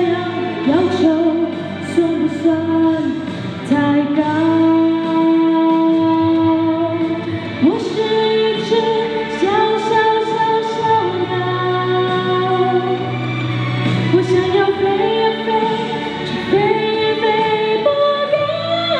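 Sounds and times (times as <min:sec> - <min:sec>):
backing track music: 0:00.0 - 0:18.9
woman singing pop song: 0:00.0 - 0:18.9.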